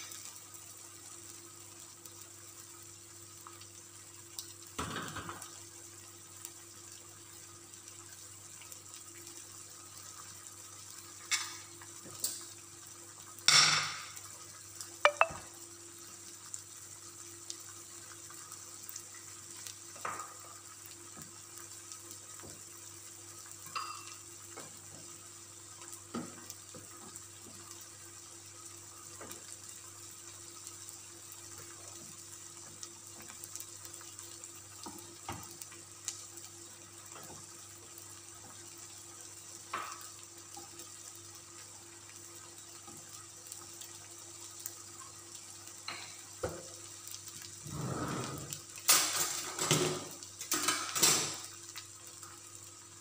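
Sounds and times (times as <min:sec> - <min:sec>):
sauce bubbling and sizzling: 0:00.0 - 0:53.0.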